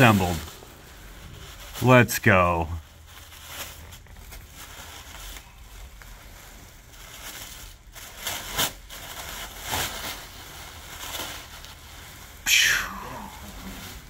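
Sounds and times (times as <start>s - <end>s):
packing wrap rustling: 0.0s - 1.9s, 2.7s - 14.0s.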